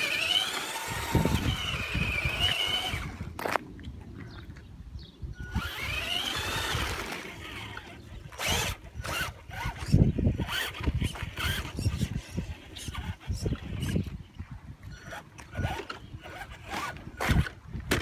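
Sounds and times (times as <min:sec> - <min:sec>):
electric motor whining: 0:00.0 - 0:03.4, 0:05.4 - 0:14.1, 0:15.0 - 0:17.6.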